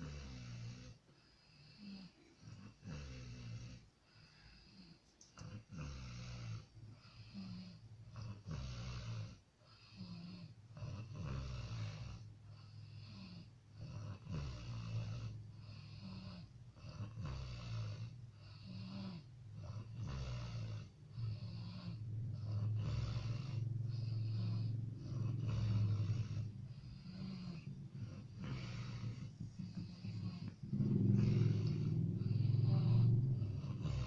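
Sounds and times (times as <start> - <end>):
person snoring loudly: 0.0 - 1.0, 1.6 - 3.8, 4.7 - 34.0.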